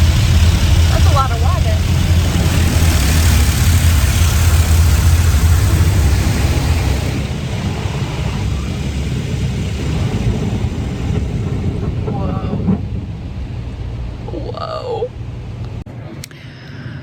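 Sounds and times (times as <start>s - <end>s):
car wash low rumble: 0.0s - 15.9s.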